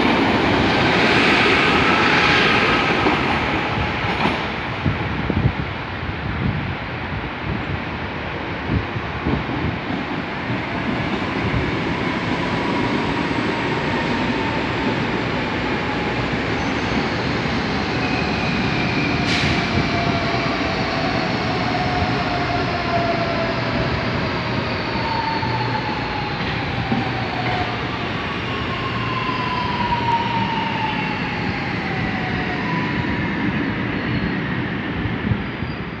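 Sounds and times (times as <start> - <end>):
train wheel and rail rumble: 0.0 - 36.0.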